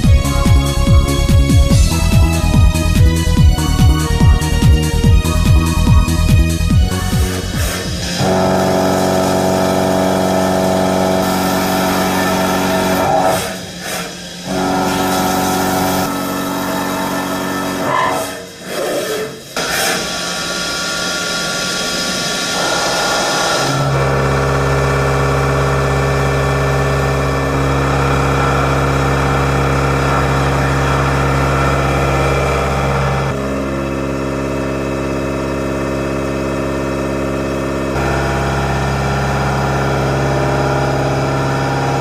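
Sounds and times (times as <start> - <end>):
machining center humming: 0.0 - 42.0.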